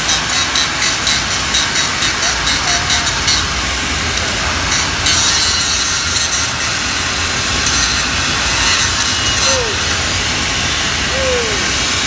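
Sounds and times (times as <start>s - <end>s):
welding arc crackling and hissing: 0.0s - 12.0s.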